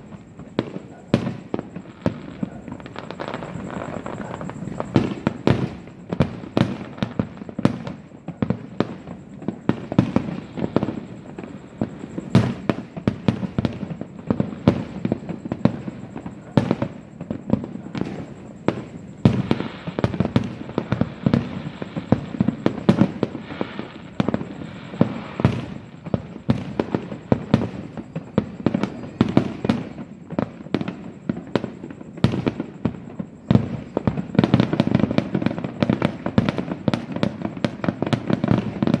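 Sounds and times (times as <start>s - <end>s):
crackling sparkle: 0.0s - 39.0s
fireworks bangs: 0.0s - 39.0s.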